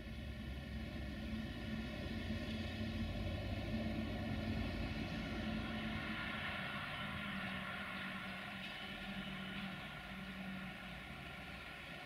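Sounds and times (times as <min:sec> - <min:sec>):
distant diesel locomotive engine: 0:00.0 - 0:12.0.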